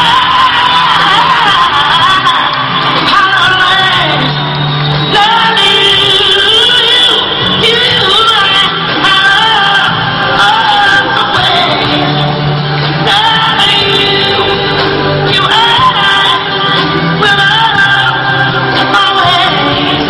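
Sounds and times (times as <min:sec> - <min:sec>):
musical accompaniment: 0:00.0 - 0:20.0
woman singing: 0:00.0 - 0:20.0.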